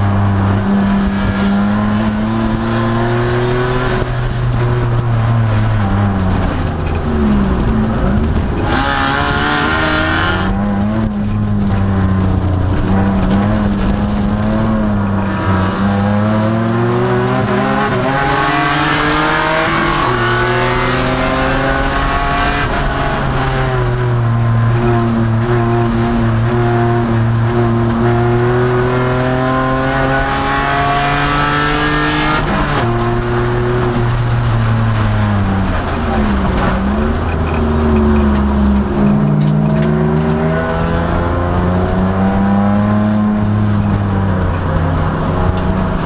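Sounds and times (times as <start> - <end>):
race car engine revving: 0.0 - 46.0.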